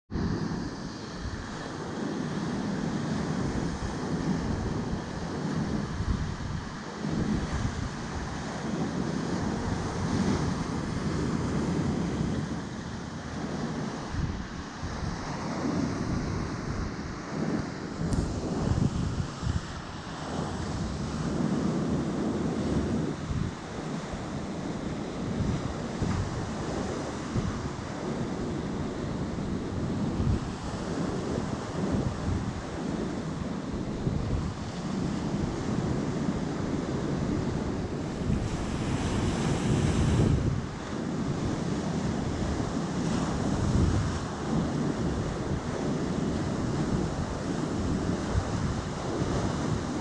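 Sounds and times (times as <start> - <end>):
sea surf washing ashore: 0.1 - 50.0
wind buffeting microphone: 0.1 - 50.0.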